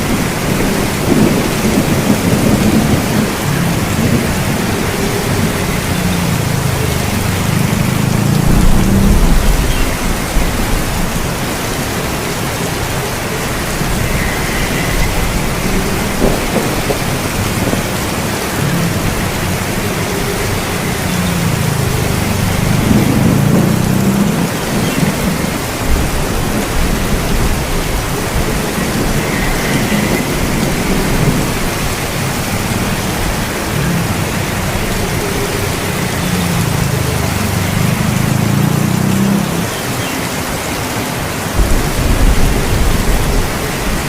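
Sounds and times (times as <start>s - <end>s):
rolling thunder: 0.0s - 35.0s, 41.6s - 44.0s
heavy rain: 0.0s - 44.0s.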